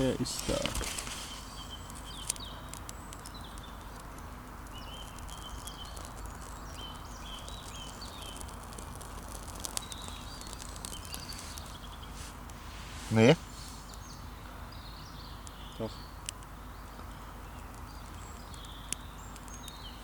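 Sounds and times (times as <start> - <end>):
campfire crackling and popping: 0.0 - 13.2, 15.2 - 20.0
bird chirping: 0.0 - 20.0.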